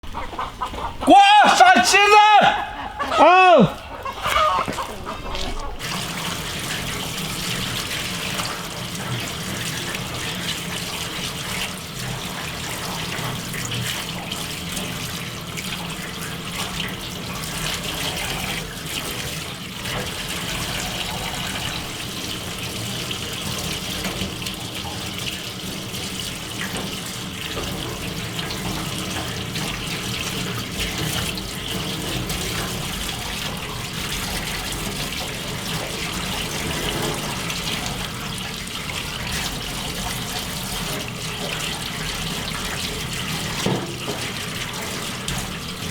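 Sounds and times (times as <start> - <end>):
tap water running: 0.0 - 45.9.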